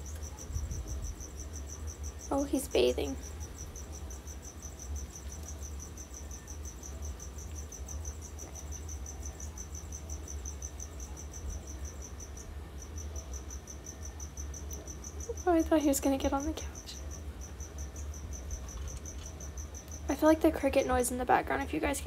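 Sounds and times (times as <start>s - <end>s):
crickets chirping: 0.0s - 22.0s
low steady hum: 0.0s - 22.0s.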